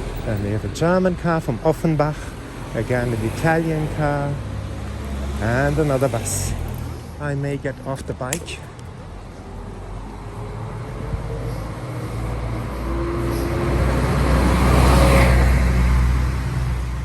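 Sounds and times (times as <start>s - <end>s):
bus driving past: 0.0s - 7.7s, 8.5s - 17.0s.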